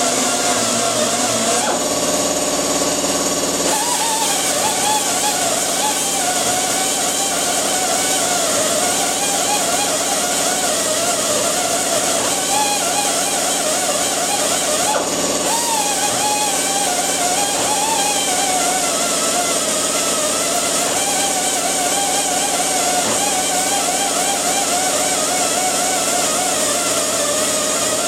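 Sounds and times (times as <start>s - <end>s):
angle grinder on sheet steel: 0.0s - 28.0s.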